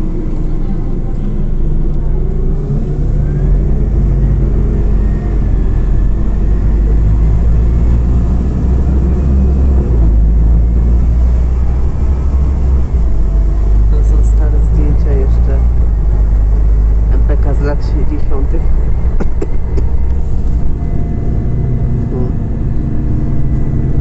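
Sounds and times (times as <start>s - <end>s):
bus engine rumble: 0.0s - 24.0s
road noise: 0.0s - 24.0s.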